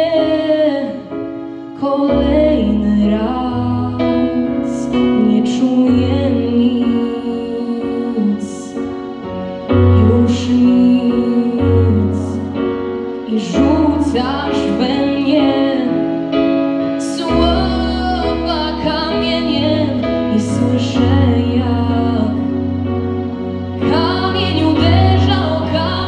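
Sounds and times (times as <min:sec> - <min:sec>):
piano: 0:00.0 - 0:26.0
sustained bass: 0:02.1 - 0:26.0.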